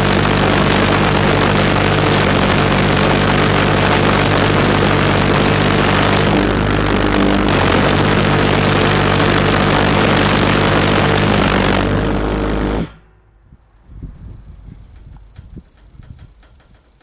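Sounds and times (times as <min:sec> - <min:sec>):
pulsejet engine deep buzzing drone: 0:00.0 - 0:15.0.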